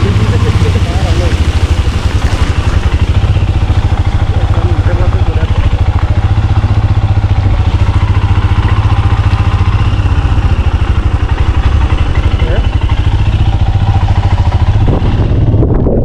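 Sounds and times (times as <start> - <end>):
vehicle engine throbbing: 0.0 - 16.0
wind and road noise: 0.0 - 16.0.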